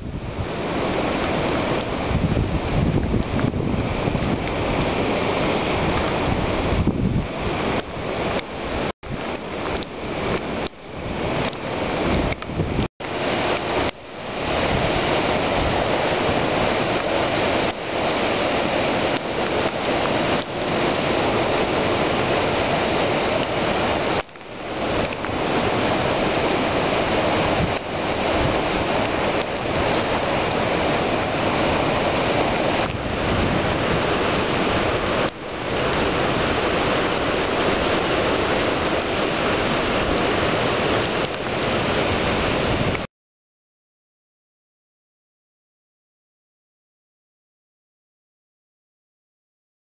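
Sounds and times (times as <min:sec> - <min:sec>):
roar of storm wind and rain: 0:00.0 - 0:43.1.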